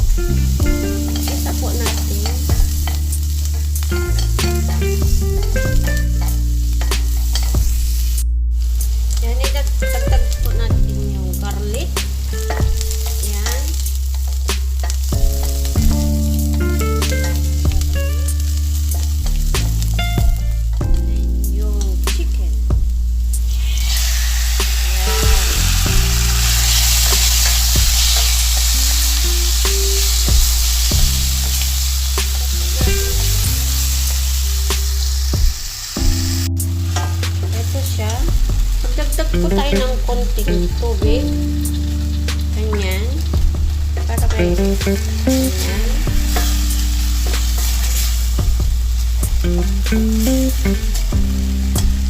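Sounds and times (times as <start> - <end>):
background music: 0.0 - 8.2, 8.8 - 52.0
onion and garlic sizzling in a pan: 0.0 - 52.0.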